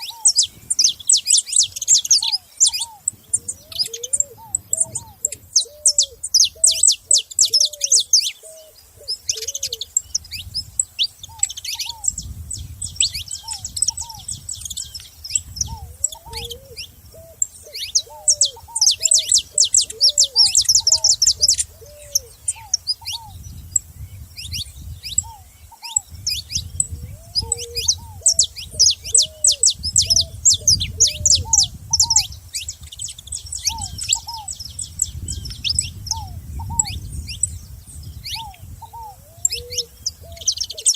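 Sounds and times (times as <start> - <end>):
finches chirping: 0.0 - 40.9
low repeated bird call: 0.0 - 40.9.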